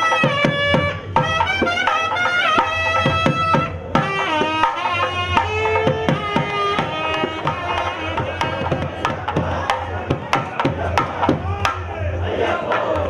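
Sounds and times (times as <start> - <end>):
hand drum strokes: 0.0 - 11.8.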